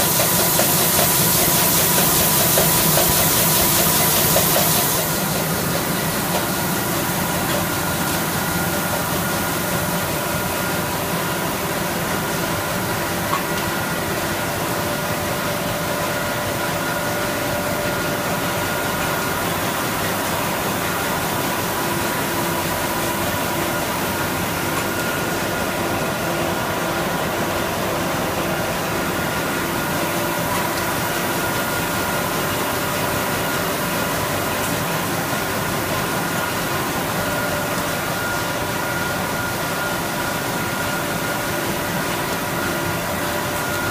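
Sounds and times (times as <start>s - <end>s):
printing machine whirring: 0.0s - 43.9s.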